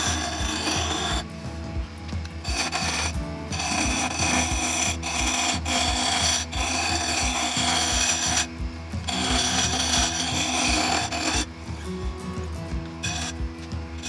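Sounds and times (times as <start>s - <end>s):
lathe tool scraping wood: 0.0s - 12.0s, 12.8s - 14.0s.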